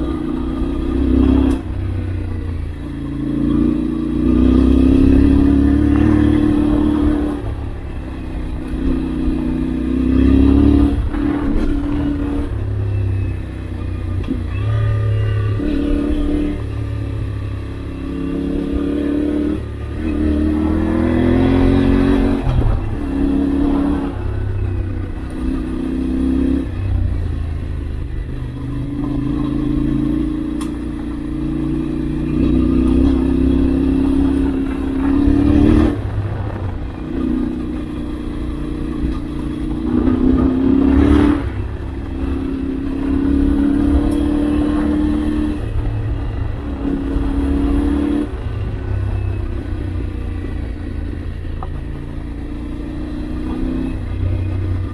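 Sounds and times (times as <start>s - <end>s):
motorcycle engine revving off-road: 0.0s - 54.9s.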